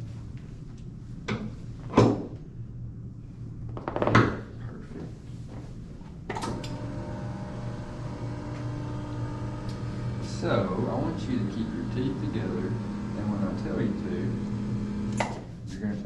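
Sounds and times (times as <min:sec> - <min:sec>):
steady multi-tone hum: 0:00.0 - 0:16.0.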